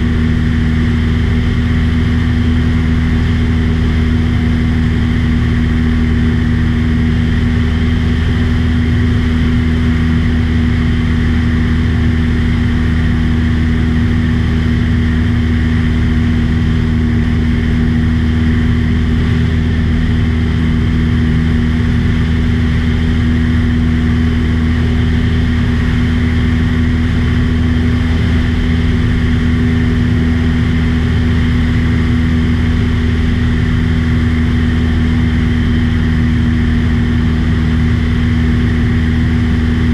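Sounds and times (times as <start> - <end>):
small plane engine and propeller: 0.0 - 39.9.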